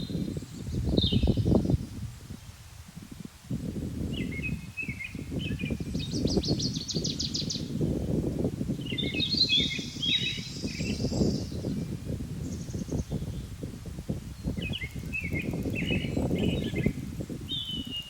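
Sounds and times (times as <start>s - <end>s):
songbird singing: 0.0s - 2.6s, 3.5s - 18.0s.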